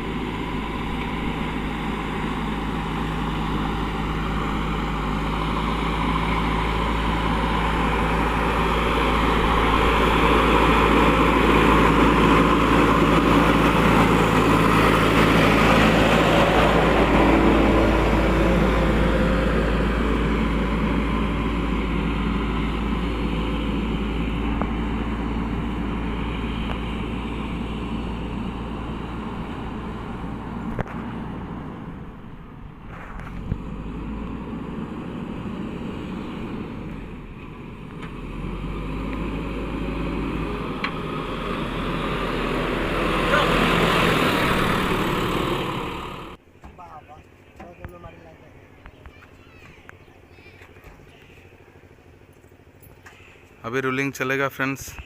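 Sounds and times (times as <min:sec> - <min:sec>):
heavy vehicle engine rumbling: 0:00.0 - 0:55.0.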